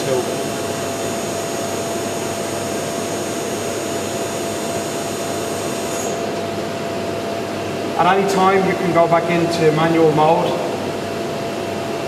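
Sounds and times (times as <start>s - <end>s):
high machine whine: 0.0s - 12.0s.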